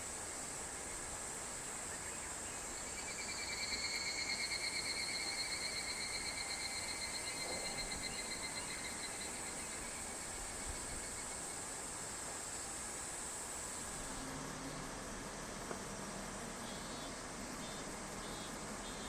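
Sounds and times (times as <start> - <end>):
cicada pulsing trill: 0.0 - 14.6, 16.5 - 19.0
steady high hiss: 0.0 - 19.0.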